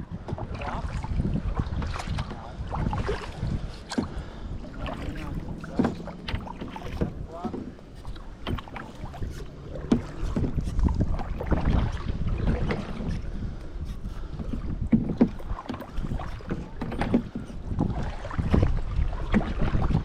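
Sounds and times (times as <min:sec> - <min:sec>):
paddle strokes and splashes: 0:00.0 - 0:20.0
wind rumble on microphone: 0:00.0 - 0:20.0.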